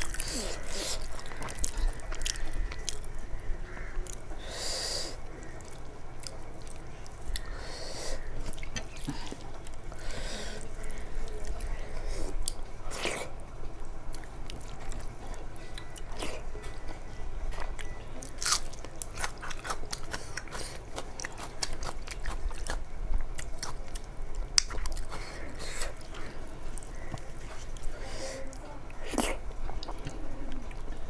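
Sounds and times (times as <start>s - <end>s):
person chewing soft food: 0.0s - 13.5s, 14.1s - 31.0s.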